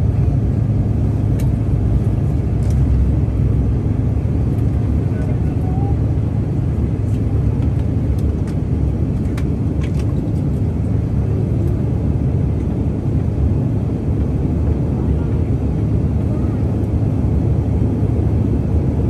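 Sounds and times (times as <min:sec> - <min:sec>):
jet cabin engine rumble: 0:00.0 - 0:19.0.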